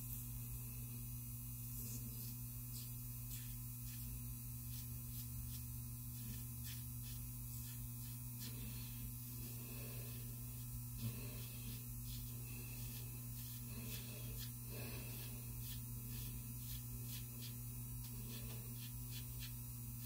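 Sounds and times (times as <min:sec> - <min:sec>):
low electrical hum: 0:00.0 - 0:20.0
razor scraping stubble: 0:01.7 - 0:20.0.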